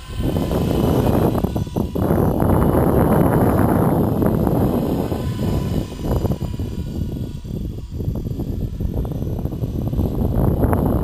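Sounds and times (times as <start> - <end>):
rc helicopter whine: 0.0 - 11.0
wind buffeting microphone: 0.0 - 11.0.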